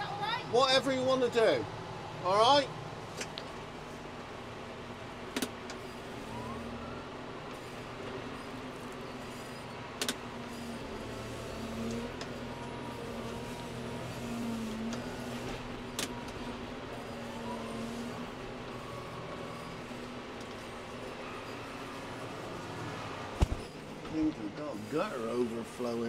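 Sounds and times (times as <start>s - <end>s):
tractor diesel engine under load: 1.0s - 26.0s.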